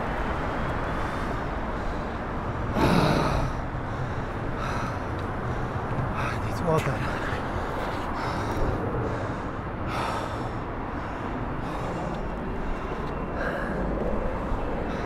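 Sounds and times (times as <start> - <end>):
city street traffic: 0.0 - 15.0
man breathing hard: 1.0 - 6.4, 7.0 - 15.0.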